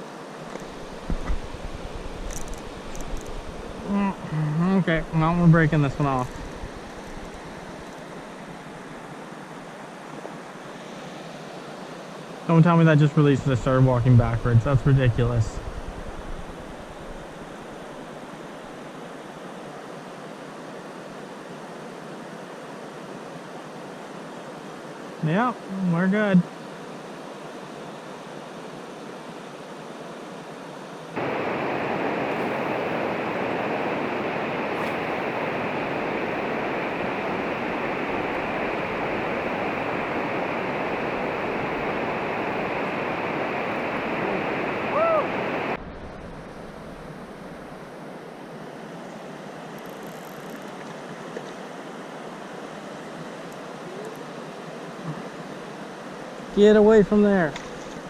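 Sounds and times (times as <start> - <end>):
river water rushing: 0.0 - 14.2, 15.8 - 25.3, 26.5 - 49.8, 50.7 - 58.0.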